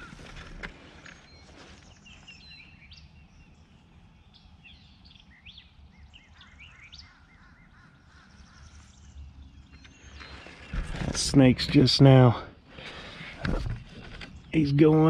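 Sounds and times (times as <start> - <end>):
small birds chirping and singing: 0.0 - 15.0.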